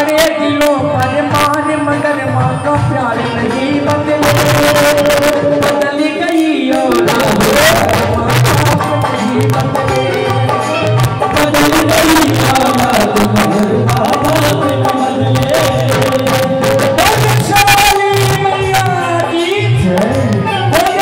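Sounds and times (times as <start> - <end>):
hand drum beats: 2.3 - 21.0.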